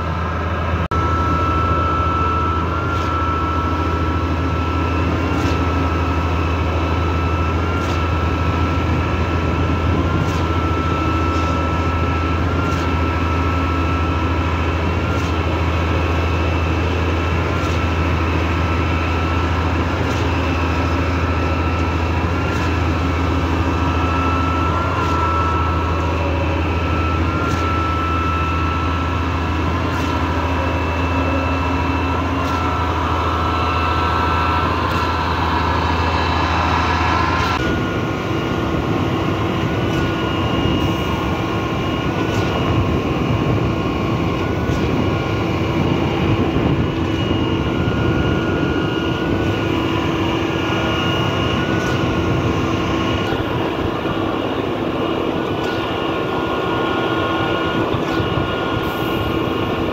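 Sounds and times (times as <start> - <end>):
concrete pump engine drone: 0.0 - 59.9.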